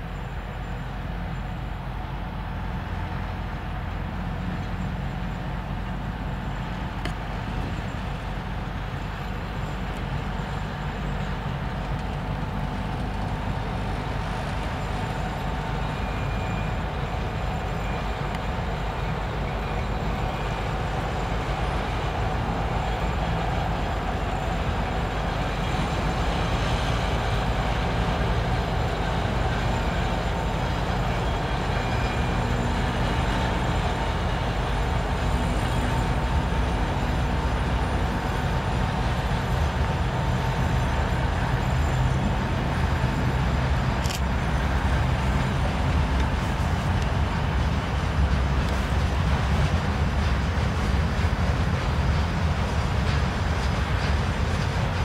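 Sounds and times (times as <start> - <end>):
diesel engine throbbing drone: 0.0 - 55.0
freight train rumble: 0.0 - 55.0.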